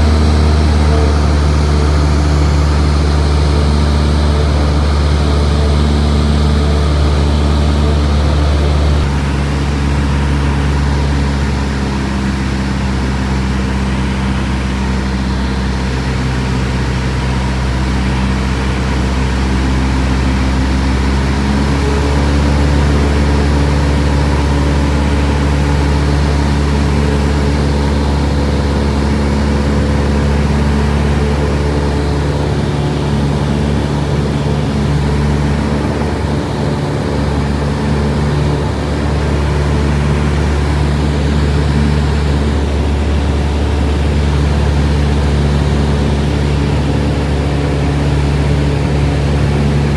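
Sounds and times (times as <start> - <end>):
small aircraft engine droning: 0.0 - 49.9.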